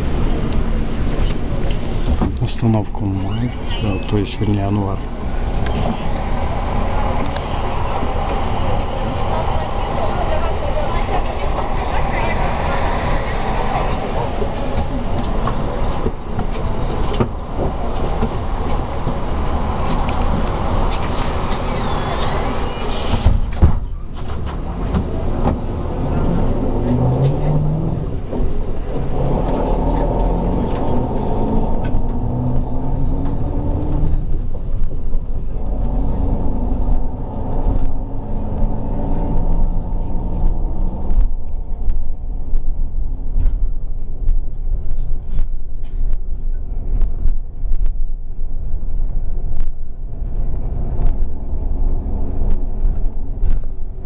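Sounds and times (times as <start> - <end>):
bus engine running: 0.0 - 54.0
road rumble: 0.0 - 54.0.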